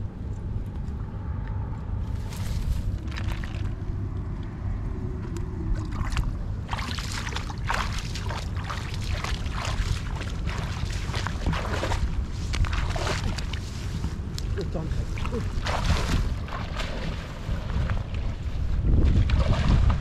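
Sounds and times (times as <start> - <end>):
steady low rumble: 0.0 - 20.0
water splashing and sloshing: 0.6 - 20.0.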